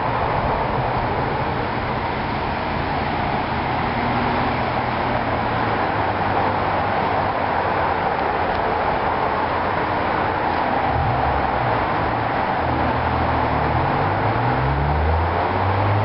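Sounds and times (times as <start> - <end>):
road traffic noise: 0.0 - 16.0
vehicle engine rumble: 0.0 - 16.0.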